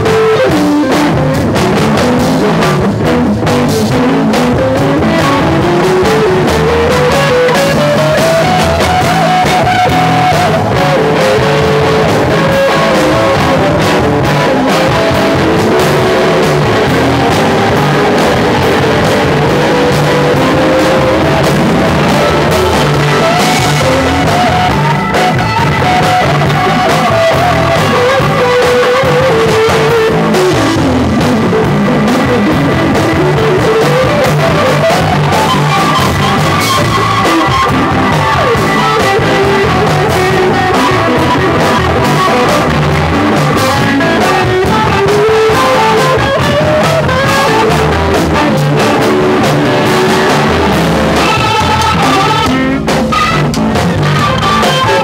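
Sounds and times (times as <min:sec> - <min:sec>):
electric guitar soloing: 0:00.0 - 0:55.0
live rock band playing: 0:00.0 - 0:55.0.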